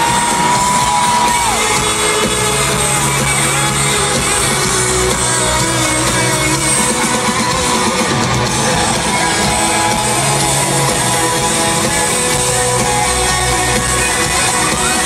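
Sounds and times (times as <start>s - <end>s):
electric guitar: 0.0s - 15.0s
live band playing loud: 0.0s - 15.0s.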